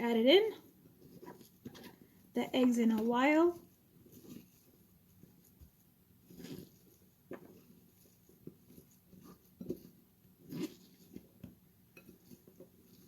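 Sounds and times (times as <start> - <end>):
hands squelching ground meat: 0.6 - 13.0.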